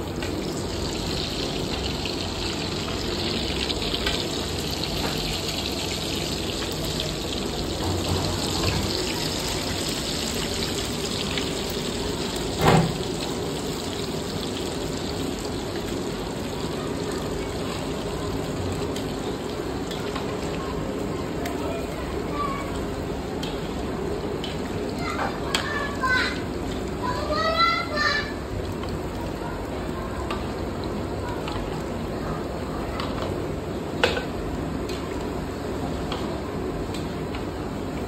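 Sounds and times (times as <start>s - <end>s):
food deep-frying in sizzling oil: 0.0s - 38.0s.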